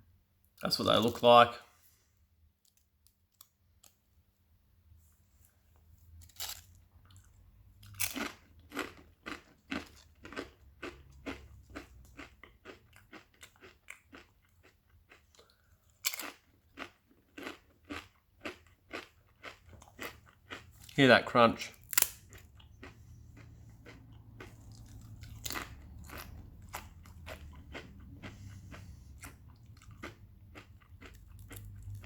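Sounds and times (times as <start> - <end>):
chips crunching: 6.2 - 32.0.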